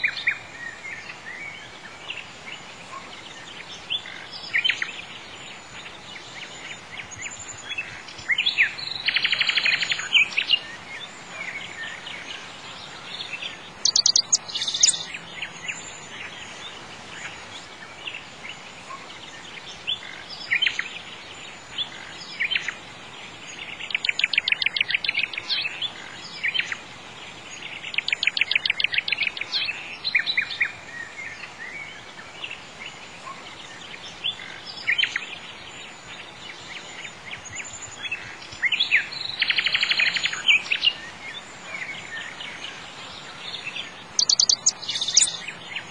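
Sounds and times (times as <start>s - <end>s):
songbirds trilling: 0.0s - 45.9s
steady background hiss: 0.0s - 45.9s.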